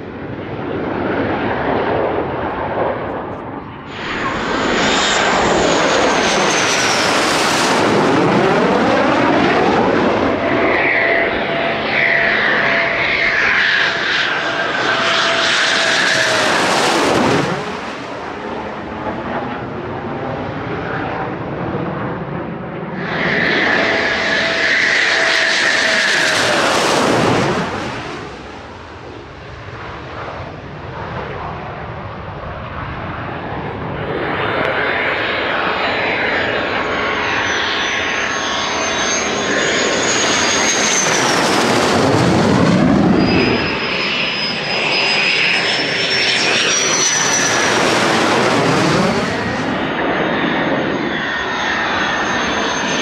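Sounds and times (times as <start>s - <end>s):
fighter jets flying overhead: 0.0s - 53.0s.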